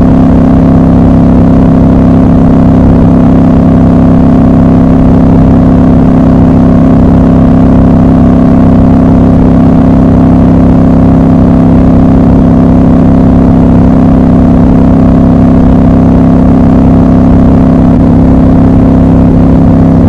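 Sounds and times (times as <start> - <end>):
motorcycle engine drone: 0.0 - 20.0.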